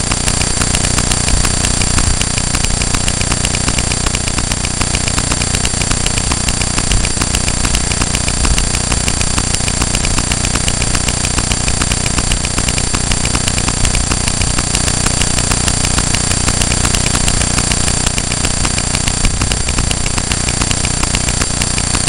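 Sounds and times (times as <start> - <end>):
electrical whine: 0.0 - 22.0
fast even ticking: 0.0 - 22.0.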